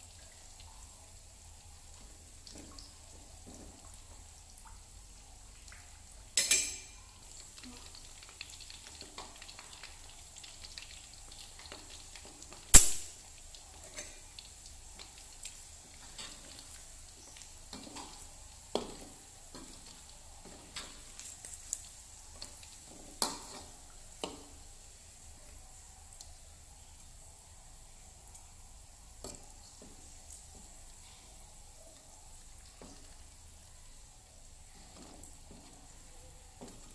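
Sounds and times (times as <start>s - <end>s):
chicken sizzling in oil: 0.0s - 36.9s.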